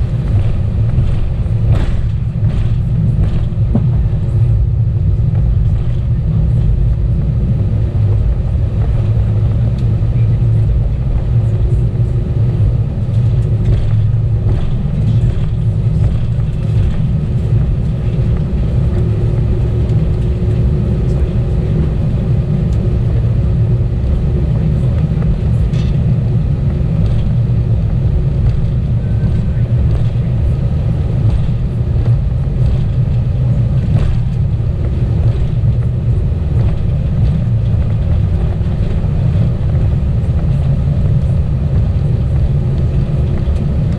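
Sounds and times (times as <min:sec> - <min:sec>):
aircraft engines and airflow rumble: 0:00.0 - 0:43.9.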